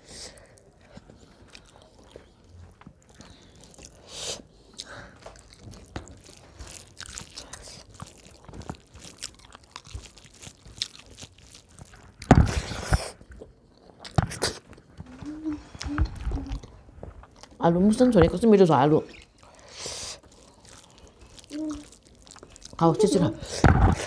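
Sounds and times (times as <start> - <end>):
chewing and biting food: 0.2 - 17.6, 18.2 - 24.0.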